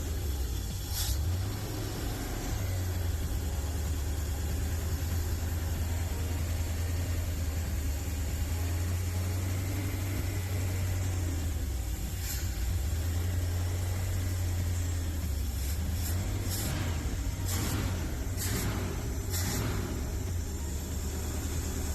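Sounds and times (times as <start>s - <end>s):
van engine idling: 0.0s - 21.9s.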